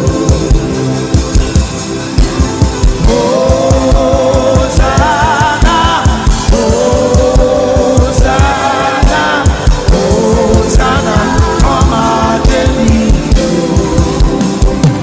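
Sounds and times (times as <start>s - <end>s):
person singing with vibrato: 0.0s - 1.9s, 2.8s - 15.0s
band playing: 0.0s - 15.0s
steady drum beat: 0.0s - 15.0s.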